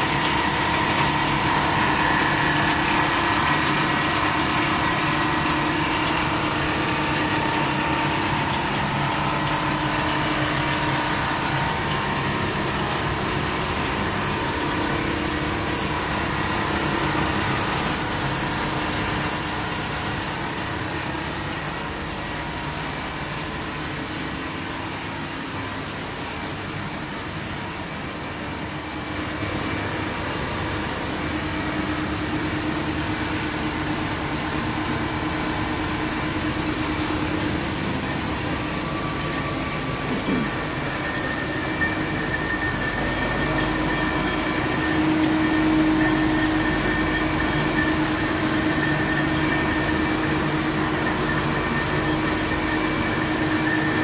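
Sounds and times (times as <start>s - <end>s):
machine hum and whir: 0.0s - 54.0s.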